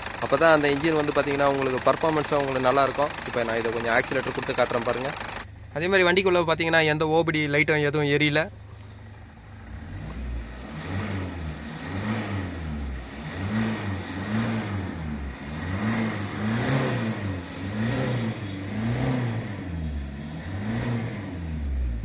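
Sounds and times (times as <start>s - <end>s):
car engine revving: 0.0s - 5.4s, 9.4s - 22.0s.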